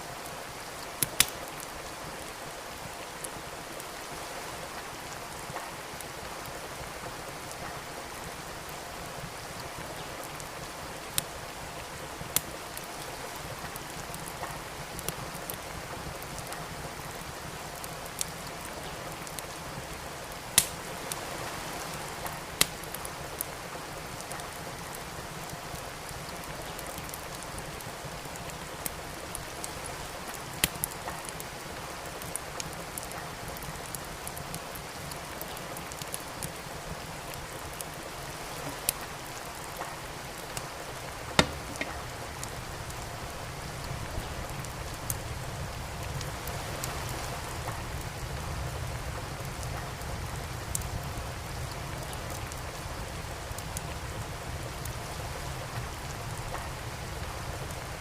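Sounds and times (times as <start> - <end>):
steady rain: 0.0 - 58.0
wood crackling in fireplace: 0.1 - 58.0.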